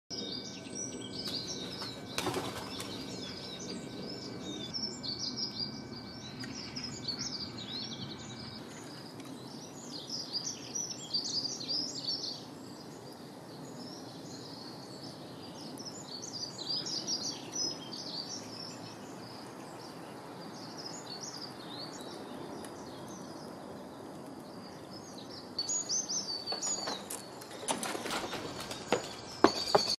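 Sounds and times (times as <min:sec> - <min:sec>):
songbirds chirping: 0:00.1 - 0:30.0.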